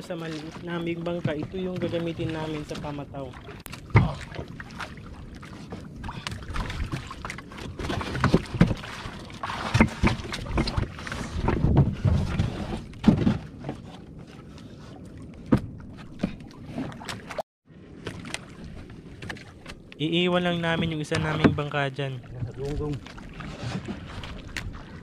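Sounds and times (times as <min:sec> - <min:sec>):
water slapping against boats: 0:00.0 - 0:25.0.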